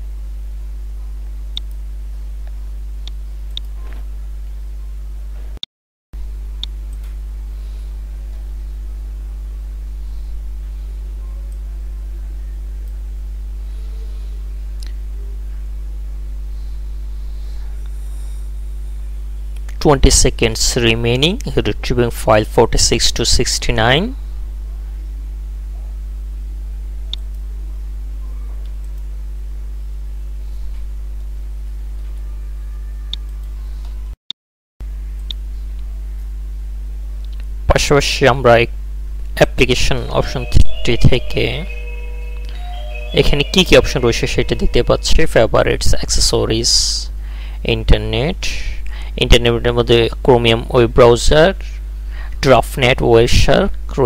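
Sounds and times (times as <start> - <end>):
low electrical hum: 0.0 - 5.6, 6.2 - 34.2, 34.8 - 54.0.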